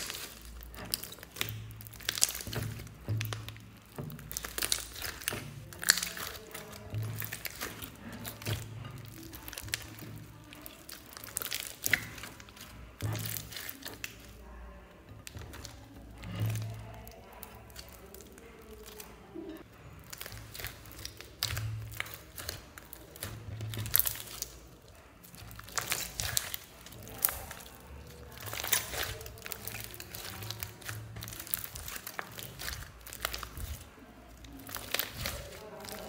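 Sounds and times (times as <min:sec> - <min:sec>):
slime squishing and crackling: 0:00.0 - 0:36.0.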